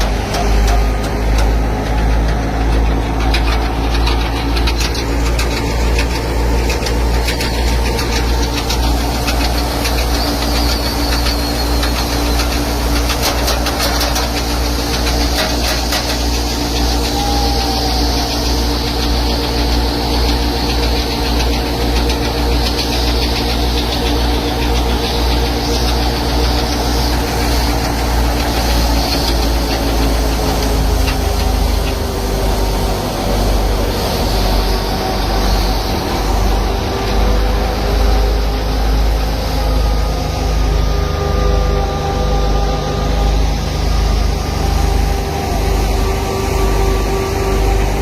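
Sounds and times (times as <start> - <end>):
thresher machinery rattling: 0.0 - 48.0
tractor engine running: 0.0 - 48.0.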